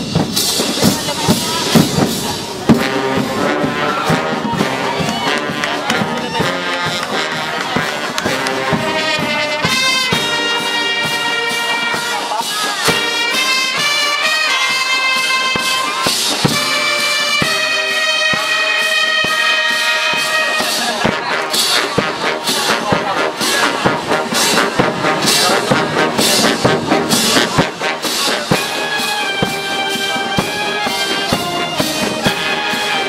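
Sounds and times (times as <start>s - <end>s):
drum beats: 0.0s - 33.0s
marching band playing: 0.0s - 33.0s
trumpets and trombones chords: 0.0s - 33.0s.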